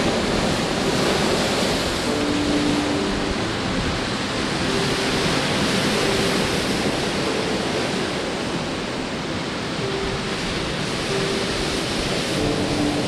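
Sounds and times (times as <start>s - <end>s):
surf breaking on rocks: 0.0s - 13.0s.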